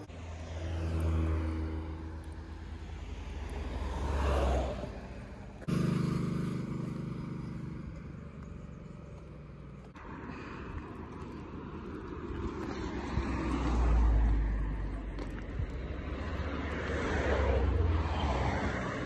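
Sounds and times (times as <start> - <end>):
cars passing: 0.0 - 19.0
engine hum: 0.0 - 19.0.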